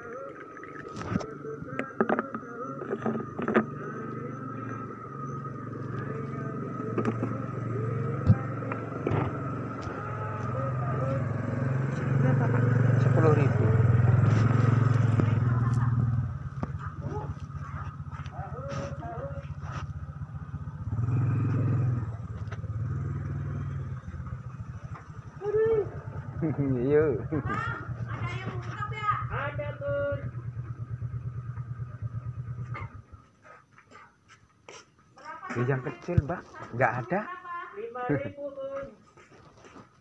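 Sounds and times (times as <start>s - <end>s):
vehicle engine running: 0.1s - 34.4s.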